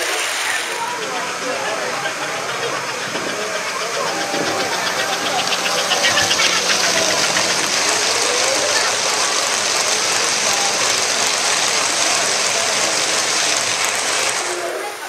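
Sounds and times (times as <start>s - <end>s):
gear-like whirr: 0.0s - 15.0s
model train wheels clattering: 0.0s - 15.0s.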